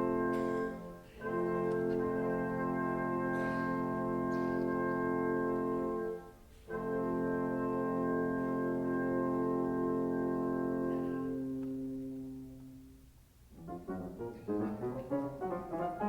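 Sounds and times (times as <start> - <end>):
orchestra with brass chords: 0.0 - 16.0.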